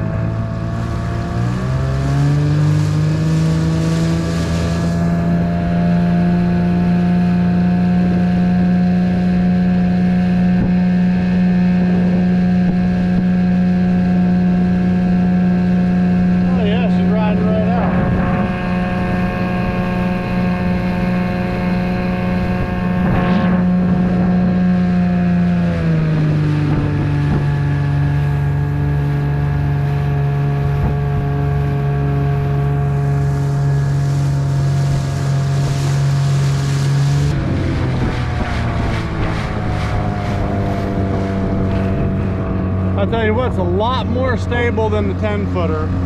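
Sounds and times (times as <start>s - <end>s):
outboard motor running: 0.0s - 46.0s
wind on microphone: 0.0s - 46.0s.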